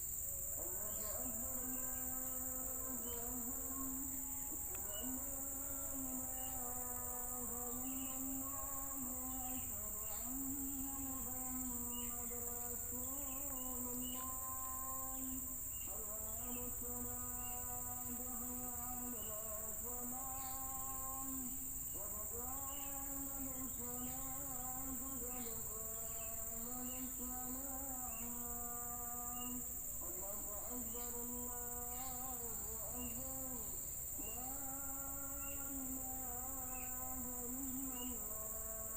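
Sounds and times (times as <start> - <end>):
insect chirps: 0.0 - 38.9
insects droning: 0.0 - 38.9.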